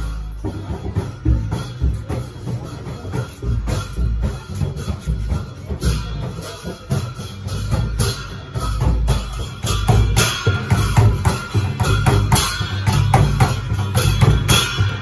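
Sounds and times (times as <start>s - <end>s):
barrel drum beat: 0.0s - 15.0s
hand cymbals clashing: 0.0s - 15.0s.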